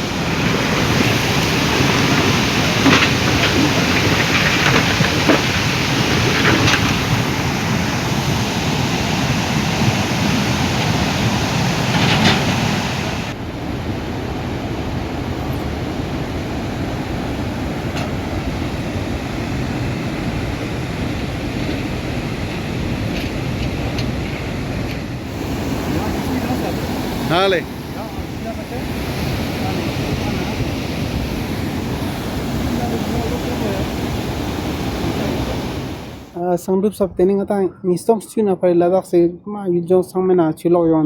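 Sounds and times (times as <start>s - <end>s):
rushing floodwater: 0.0s - 36.5s.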